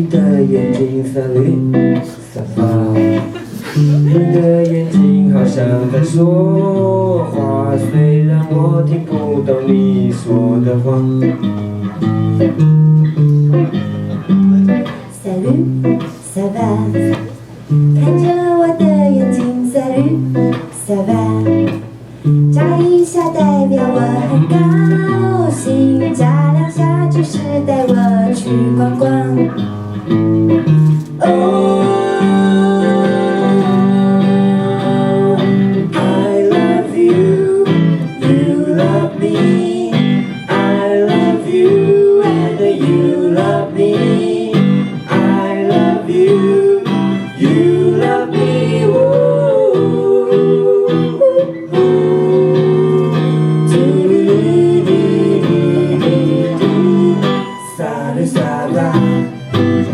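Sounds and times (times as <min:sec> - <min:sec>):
guitar melody line: 0:00.0 - 0:59.9
strummed acoustic guitar: 0:00.0 - 0:59.9.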